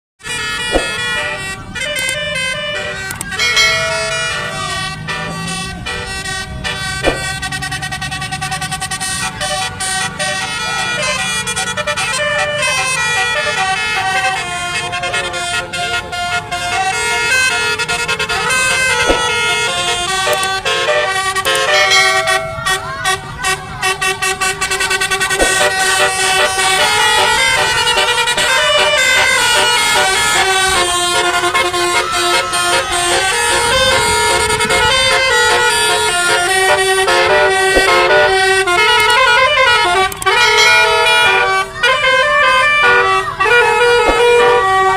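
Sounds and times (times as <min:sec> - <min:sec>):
bus air horn playing a tune: 0:00.2 - 0:44.9.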